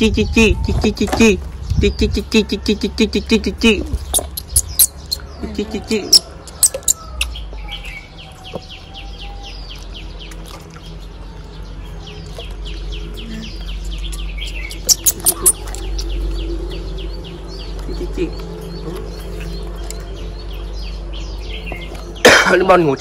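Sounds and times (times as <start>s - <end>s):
small bird chirping: 1.6s - 22.3s.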